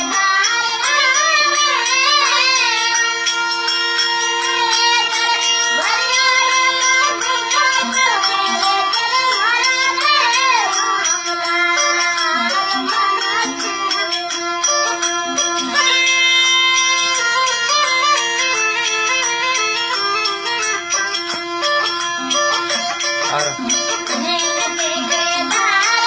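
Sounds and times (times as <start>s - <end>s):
held chord tones: 0.0s - 26.0s
percussion beat: 0.0s - 26.0s.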